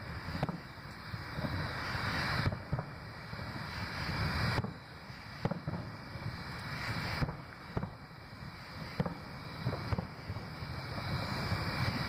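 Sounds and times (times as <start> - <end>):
distant fireworks booming: 0.0 - 12.0.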